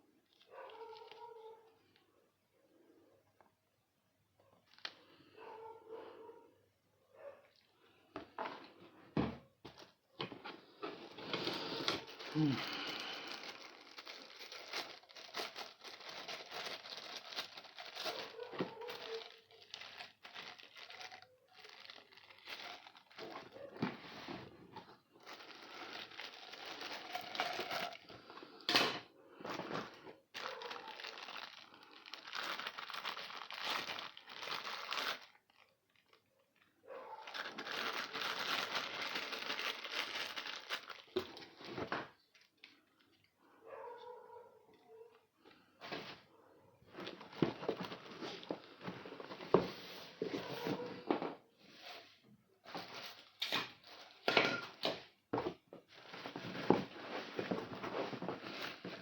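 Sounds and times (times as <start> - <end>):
packaging crinkling and rustling: 0.2 - 2.0, 4.6 - 5.3, 9.6 - 28.7, 29.3 - 43.3, 46.9 - 59.0.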